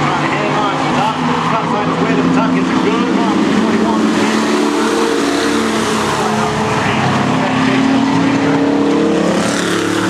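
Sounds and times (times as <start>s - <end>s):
truck engines droning: 0.0s - 10.0s.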